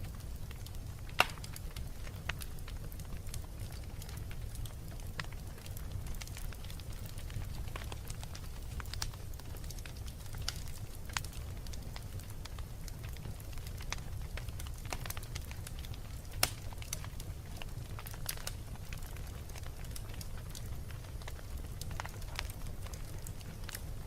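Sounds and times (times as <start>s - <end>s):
low rumble of flame: 0.0s - 24.0s
wood fire crackling and popping: 0.0s - 24.0s.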